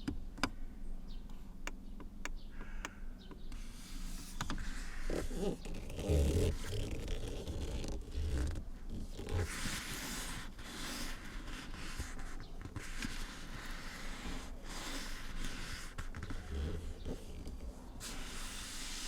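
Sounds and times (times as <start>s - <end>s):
hissing scratching on car surface: 3.6s - 19.0s.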